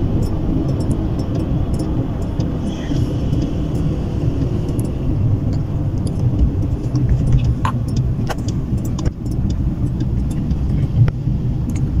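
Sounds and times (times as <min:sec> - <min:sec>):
car engine and tyre rumble: 0:00.0 - 0:12.0
light clicks and ticks: 0:00.2 - 0:12.0.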